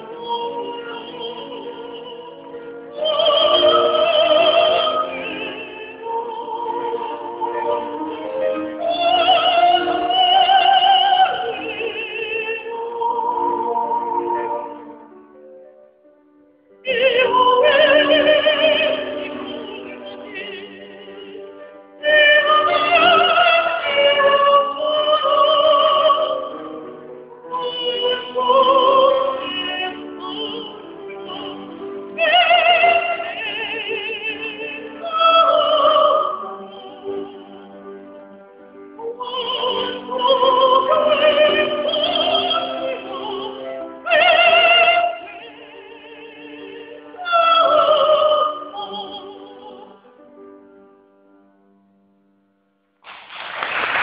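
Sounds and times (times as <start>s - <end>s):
operatic singing with vibrato: 0.0s - 15.2s, 16.7s - 38.1s, 38.9s - 50.2s.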